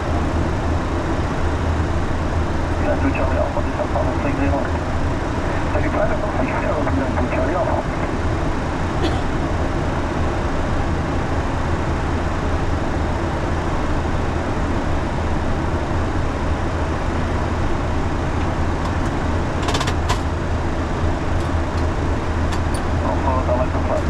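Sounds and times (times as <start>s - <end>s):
airflow and engine rush: 0.0s - 24.0s.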